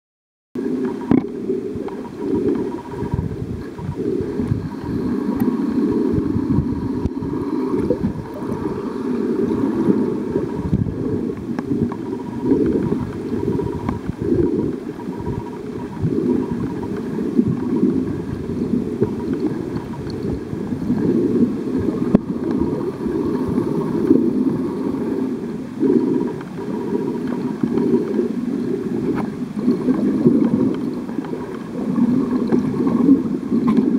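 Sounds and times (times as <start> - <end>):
muffled underwater water rushing: 0.6 - 33.9.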